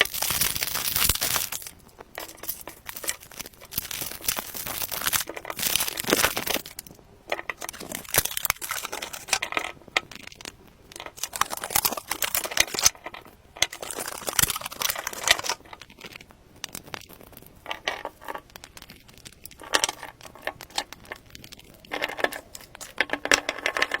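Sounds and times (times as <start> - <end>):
wrapper crinkling and tearing: 0.0 - 24.0.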